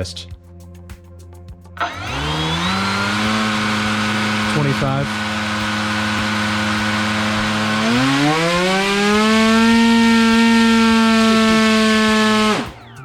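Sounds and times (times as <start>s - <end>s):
drone motor whine: 1.8s - 13.0s.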